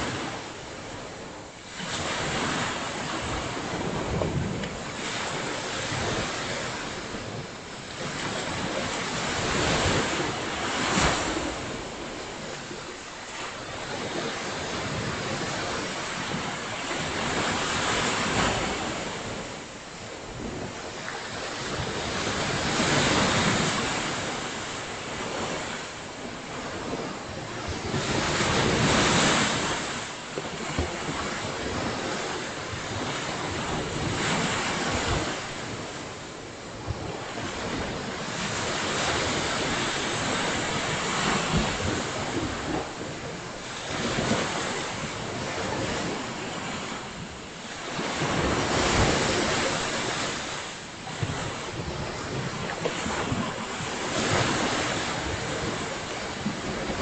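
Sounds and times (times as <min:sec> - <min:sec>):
ocean surf breaking: 0:00.0 - 0:57.0
wind rumbling on microphone: 0:00.0 - 0:57.0.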